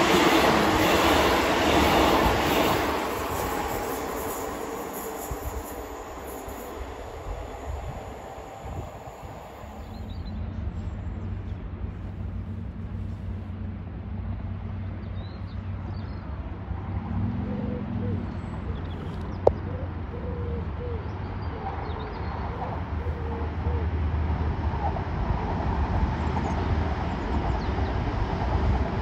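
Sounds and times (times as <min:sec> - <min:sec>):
train diesel engine hum: 0:00.0 - 0:29.0.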